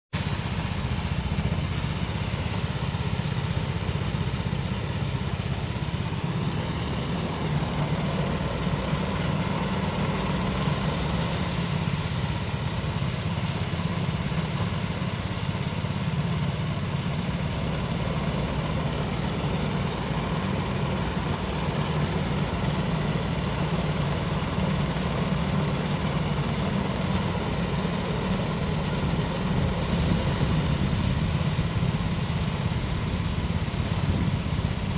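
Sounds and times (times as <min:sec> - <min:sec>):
thresher engine drone: 0:00.2 - 0:34.9.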